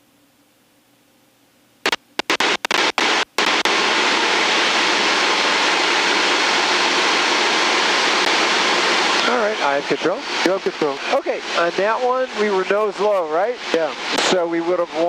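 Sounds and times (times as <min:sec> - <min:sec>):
aircraft cockpit noise: 0:01.9 - 0:15.0.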